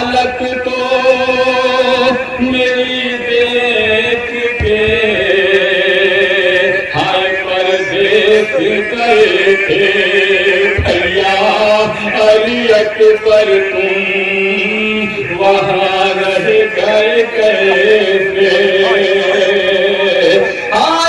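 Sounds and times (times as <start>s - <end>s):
man chanting a lament: 0.0s - 21.0s.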